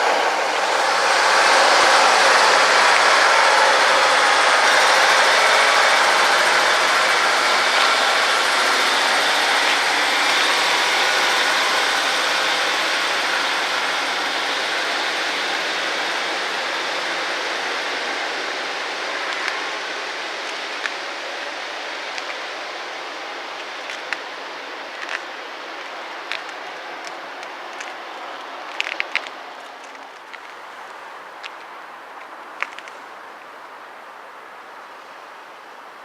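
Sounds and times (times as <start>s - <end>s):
train wheels on rails: 0.0s - 33.8s.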